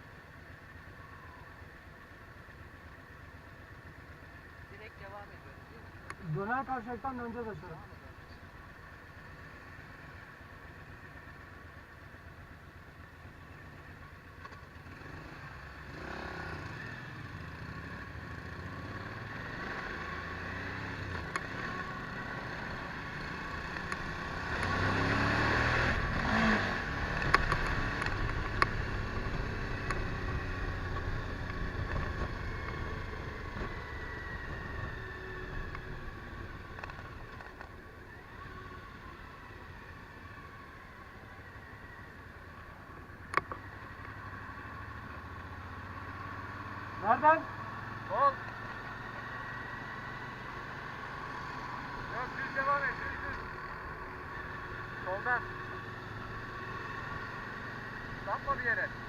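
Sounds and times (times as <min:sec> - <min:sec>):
motorcycle engine: 0:00.0 - 0:59.0
road noise: 0:00.0 - 0:59.0.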